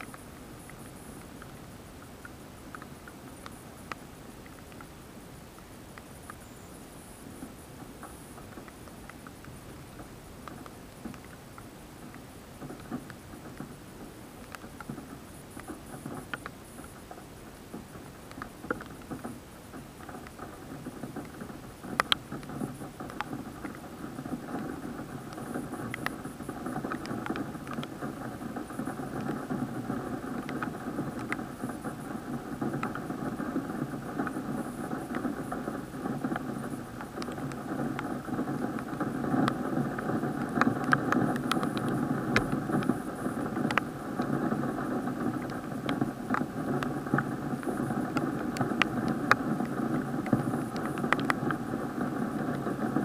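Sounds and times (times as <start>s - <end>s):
raindrops ticking on plastic case: 0.0s - 6.4s, 7.0s - 53.0s
muffled rain noise: 0.0s - 53.0s.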